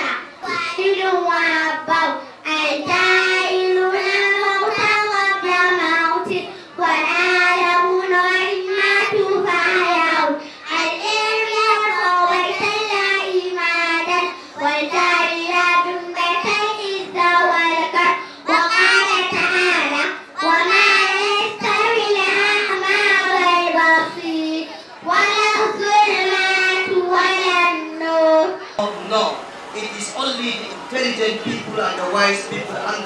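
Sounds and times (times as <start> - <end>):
children singing in unison: 0.0 - 28.8.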